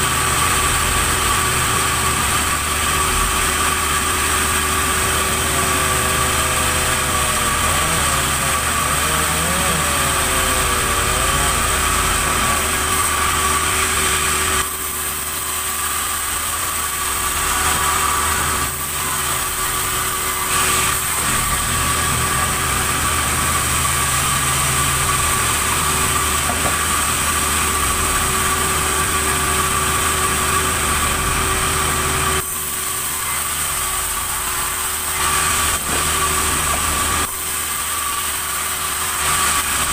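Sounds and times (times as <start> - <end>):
sawmill machinery hum and whine: 0.0 - 39.9.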